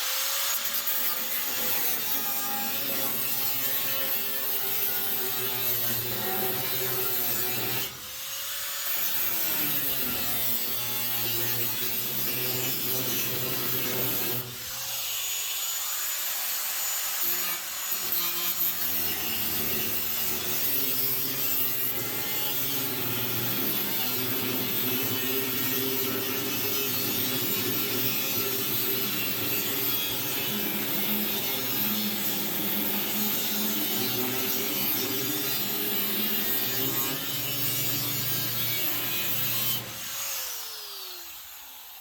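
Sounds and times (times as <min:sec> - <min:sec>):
power saw cutting sheet metal: 0:00.0 - 0:42.0.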